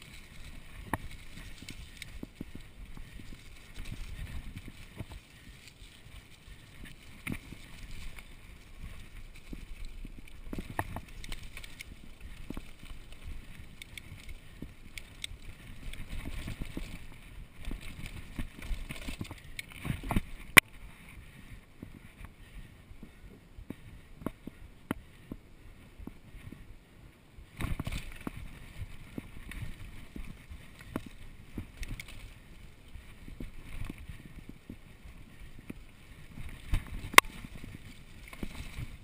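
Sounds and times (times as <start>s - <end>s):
bike rattles and clicks: 0.0s - 26.7s, 27.4s - 39.0s
bike tyres rumbling on dirt: 0.0s - 26.8s, 27.4s - 39.0s.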